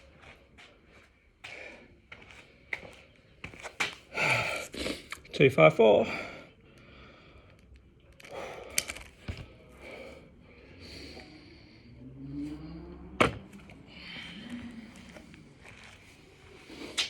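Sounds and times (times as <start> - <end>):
heavy breathing: 0.2 - 3.1, 4.0 - 5.2, 6.0 - 17.0.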